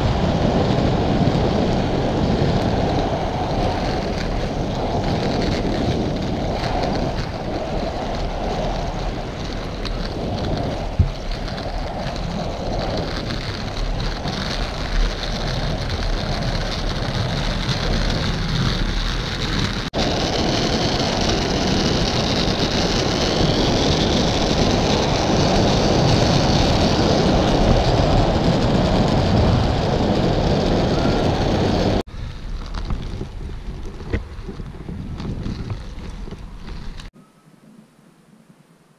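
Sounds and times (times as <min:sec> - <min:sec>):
skate wheels rolling on asphalt: 0:00.0 - 0:37.2
wind on microphone: 0:00.0 - 0:38.6.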